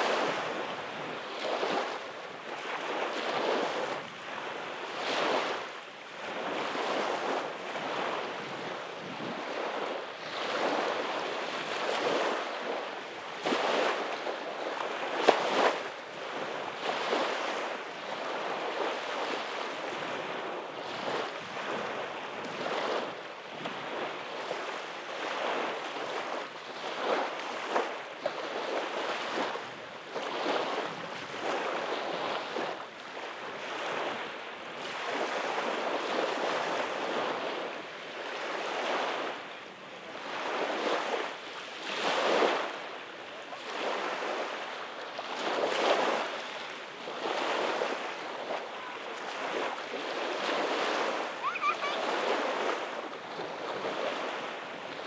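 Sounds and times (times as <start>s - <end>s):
waves washing up a beach: 0.0s - 55.0s.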